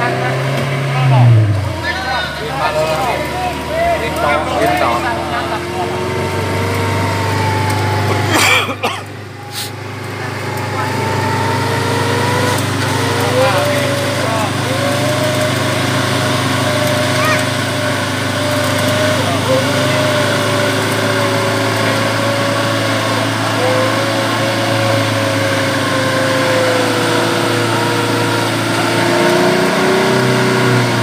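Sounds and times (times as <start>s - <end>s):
off-road vehicle engine under load: 0.0s - 31.0s.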